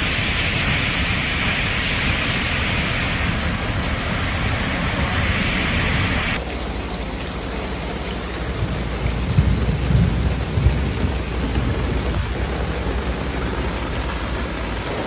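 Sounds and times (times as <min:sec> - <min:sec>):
heavy rain falling: 0:00.0 - 0:15.0
low rumbles: 0:00.0 - 0:15.0.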